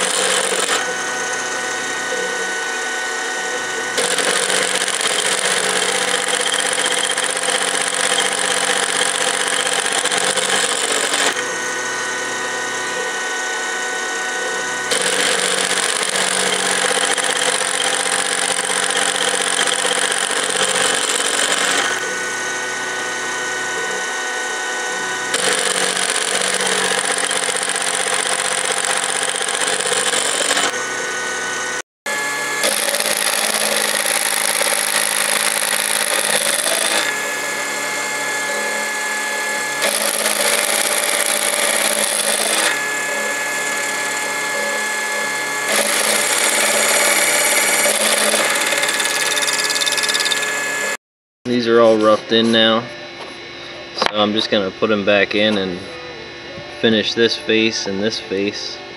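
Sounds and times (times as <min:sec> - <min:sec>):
milling machine cutting metal: 0:00.0 - 0:51.0.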